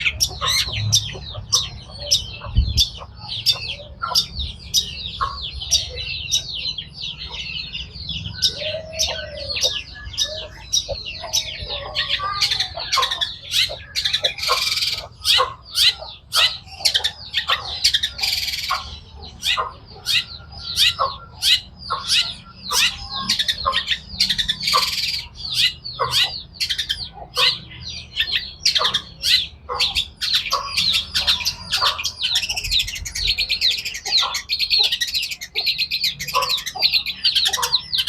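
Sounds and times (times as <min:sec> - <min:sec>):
bird chattering song: 0:00.0 - 0:38.0
harsh scratchy bird calls: 0:00.0 - 0:38.0.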